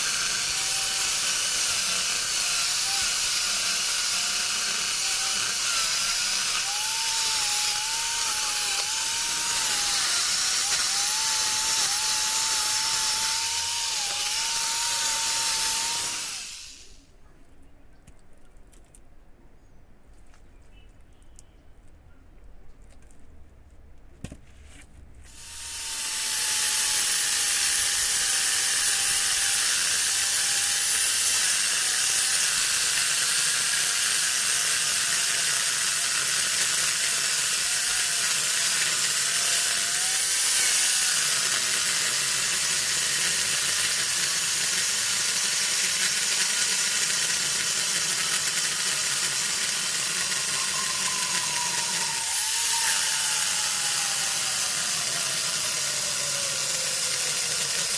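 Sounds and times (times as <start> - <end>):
angle grinder cutting wood: 0.0 - 17.0, 25.3 - 57.9.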